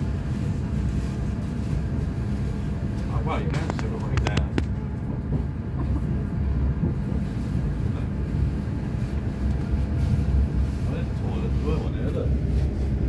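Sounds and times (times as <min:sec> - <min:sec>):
train rumble on board: 0:00.0 - 0:13.0.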